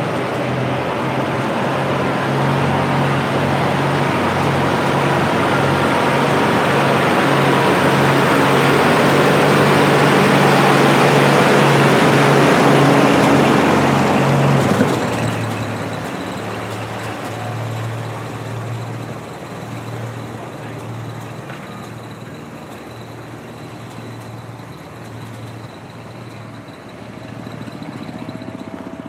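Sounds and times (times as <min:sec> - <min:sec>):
distant engine hum: 0:00.0 - 0:29.0
tractor engine running: 0:00.0 - 0:29.0.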